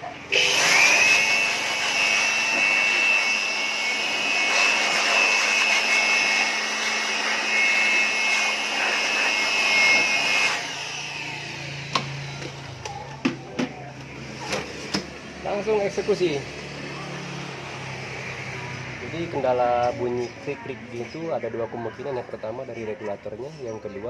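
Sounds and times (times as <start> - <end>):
electric air blower whining: 0.0 - 20.8.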